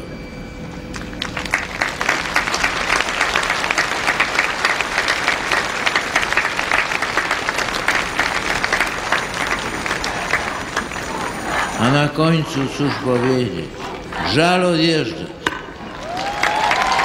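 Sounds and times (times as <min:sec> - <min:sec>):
crowd applauding: 0:00.9 - 0:17.0.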